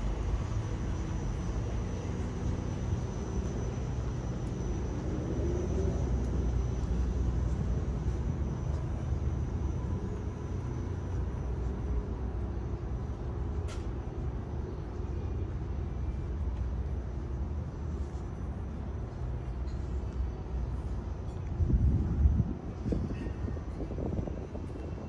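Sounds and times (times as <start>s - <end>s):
low rumble of vehicles: 0.0s - 25.0s.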